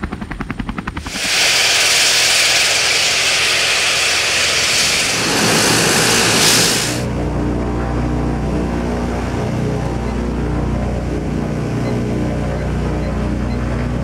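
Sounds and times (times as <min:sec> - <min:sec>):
aircraft engines hissing and whining: 0:00.0 - 0:14.0
deeper engine sound: 0:00.0 - 0:14.0.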